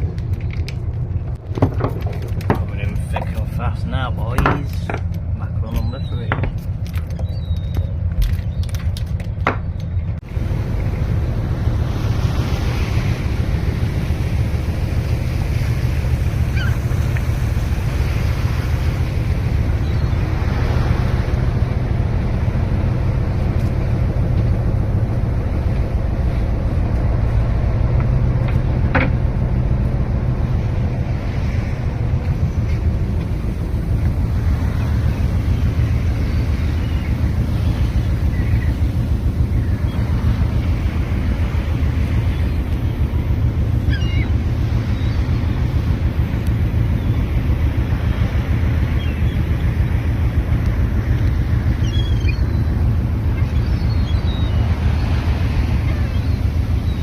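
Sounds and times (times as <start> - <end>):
boat engine rumble: 0.0 - 57.0
water noise: 0.0 - 57.0
wind: 0.0 - 57.0.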